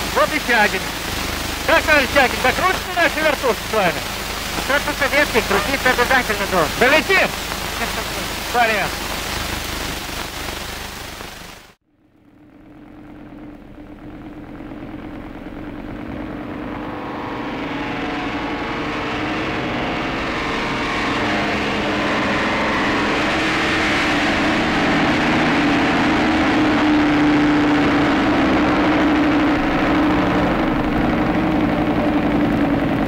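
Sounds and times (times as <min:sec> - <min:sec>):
propeller plane engine running: 0:00.0 - 0:33.0.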